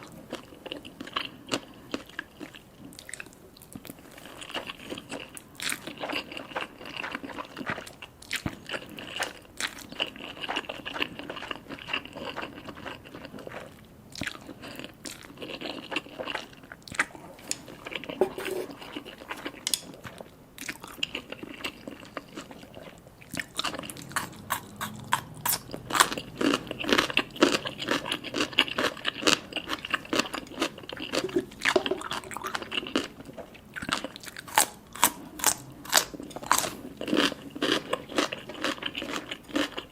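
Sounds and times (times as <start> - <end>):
chewing and biting: 0.0 - 39.9.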